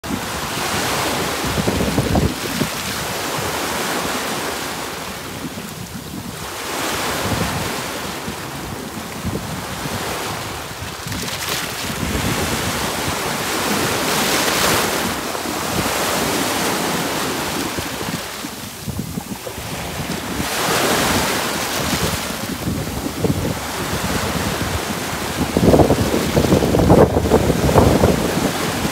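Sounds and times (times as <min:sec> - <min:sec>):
wind buffeting microphone: 0:00.0 - 0:28.9
waves washing over pebbles: 0:00.1 - 0:28.9.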